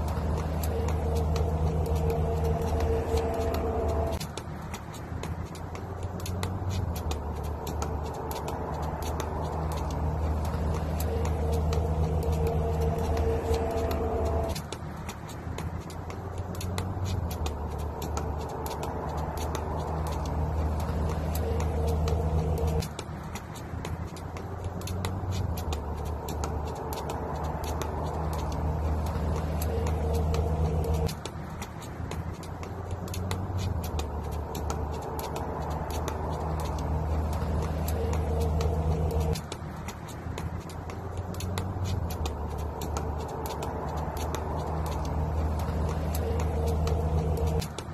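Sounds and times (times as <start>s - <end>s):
low motor hum: 0.0s - 4.2s, 6.0s - 14.7s, 16.2s - 23.0s, 24.4s - 31.2s, 32.8s - 39.6s, 40.4s - 47.9s
skipping rope slapping pavement: 0.0s - 47.9s.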